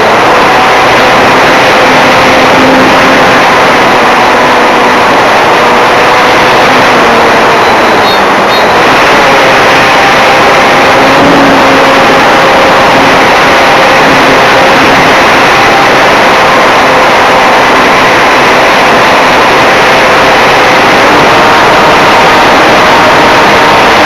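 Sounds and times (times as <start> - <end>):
electric motor whine: 0.0 - 24.0
rushing wind: 0.0 - 24.0.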